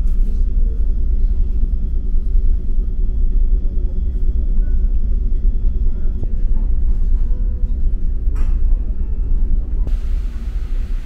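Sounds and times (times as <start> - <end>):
faint steady hum: 0.0 - 11.0
ship engine drone: 0.0 - 11.0.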